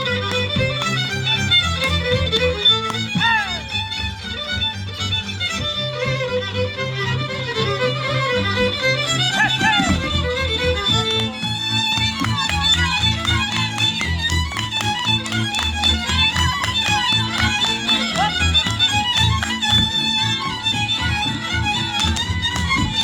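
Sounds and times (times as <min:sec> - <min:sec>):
fiddle melody: 0:00.0 - 0:23.0
folk band playing instrumental: 0:00.0 - 0:23.0.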